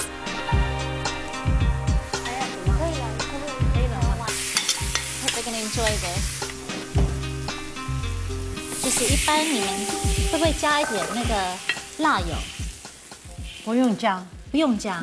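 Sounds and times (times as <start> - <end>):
pork sizzling in a wok: 0.0 - 15.0.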